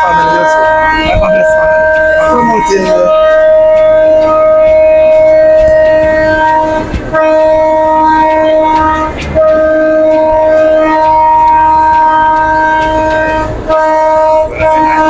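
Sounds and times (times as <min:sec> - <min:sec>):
train horn blasts: 0:00.0 - 0:15.0.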